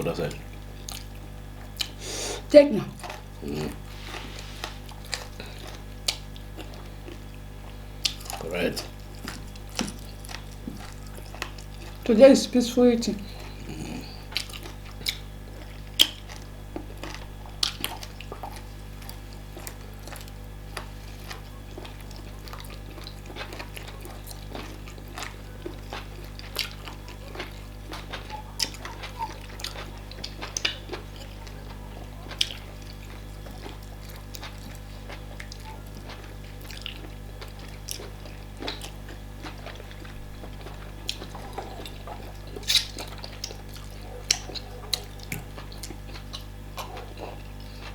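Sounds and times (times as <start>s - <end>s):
mouths chewing and smacking: 0.0s - 12.5s, 13.1s - 47.9s
steady low hum: 0.0s - 47.9s.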